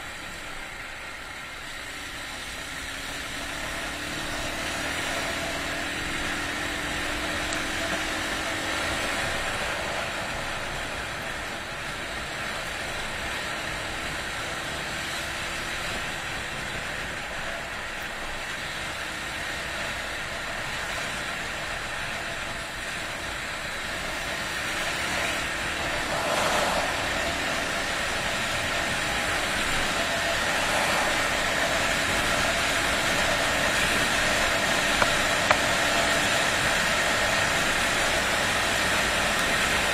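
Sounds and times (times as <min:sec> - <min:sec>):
motorcycle engine cruising: 0:00.1 - 0:39.9.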